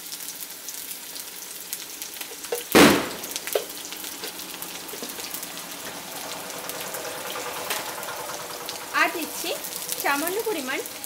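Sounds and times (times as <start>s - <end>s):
potatoes frying in oil: 0.0s - 11.0s.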